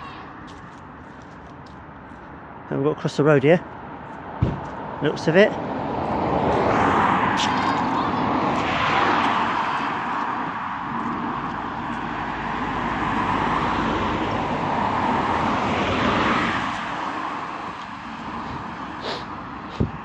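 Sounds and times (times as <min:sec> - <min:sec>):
cars passing on road: 0:00.0 - 0:20.0.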